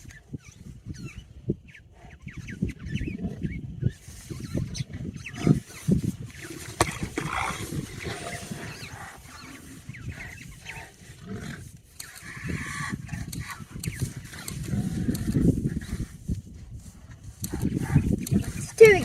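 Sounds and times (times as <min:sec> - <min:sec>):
birds chirping: 0:00.0 - 0:19.0
lions growling: 0:02.8 - 0:16.3, 0:17.0 - 0:18.8.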